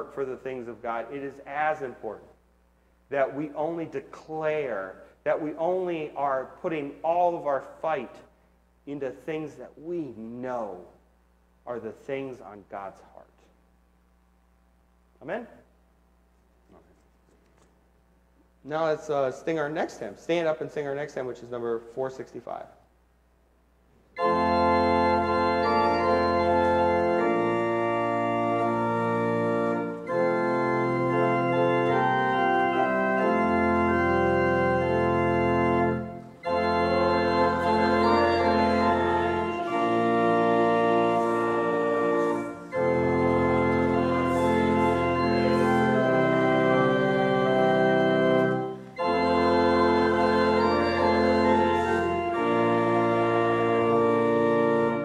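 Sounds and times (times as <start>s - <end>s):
organ playing hymn chords: 0.0s - 13.4s, 18.5s - 22.8s, 24.0s - 55.0s.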